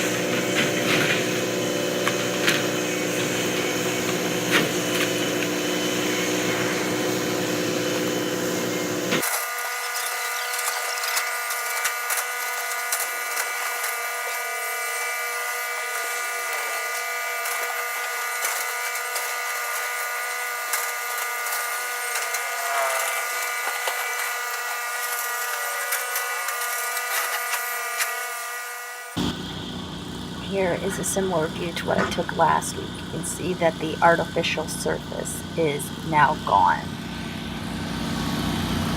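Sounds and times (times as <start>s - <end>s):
construction machinery whine: 0.0s - 38.9s.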